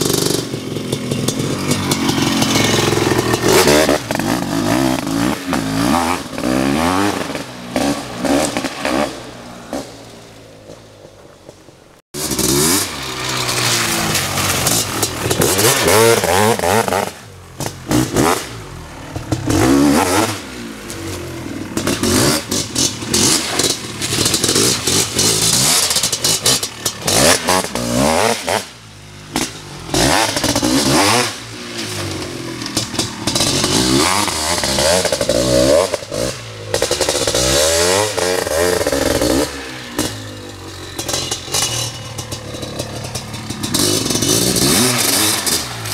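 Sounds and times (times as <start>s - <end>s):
two-stroke motorcycle revving: 0.0s - 11.6s, 12.2s - 45.9s.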